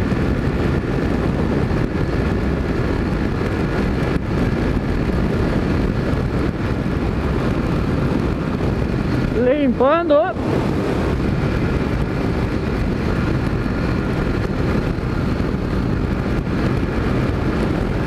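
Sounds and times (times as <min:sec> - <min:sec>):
motorcycle engine running: 0:00.0 - 0:18.0
wind rush over microphone: 0:00.0 - 0:18.0.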